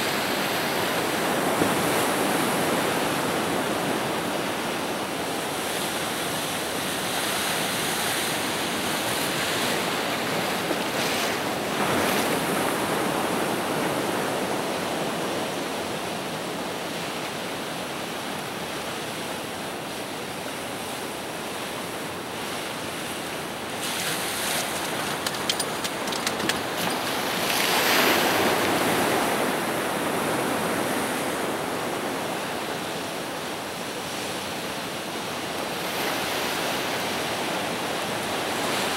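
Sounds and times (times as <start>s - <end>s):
ocean surf breaking on rocks: 0.0s - 38.9s.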